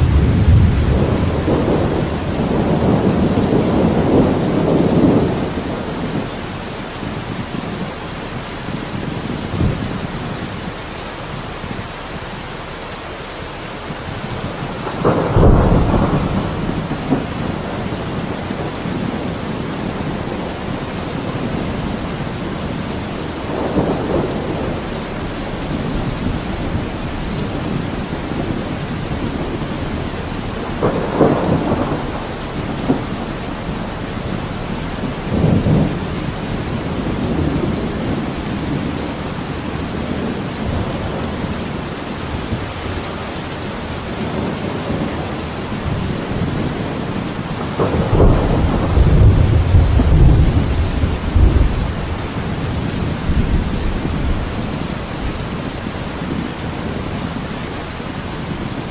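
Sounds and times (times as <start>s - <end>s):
heavy rain: 0.0s - 58.9s
thunder rumbling: 0.0s - 58.9s.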